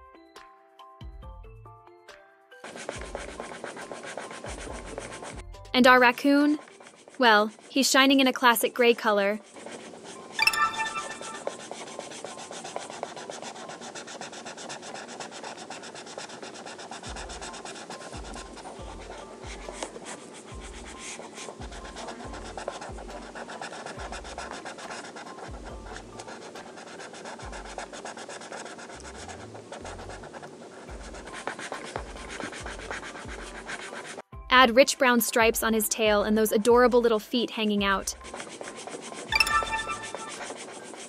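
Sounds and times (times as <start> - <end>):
marker scratching on paper: 2.6 - 34.2, 38.1 - 41.0.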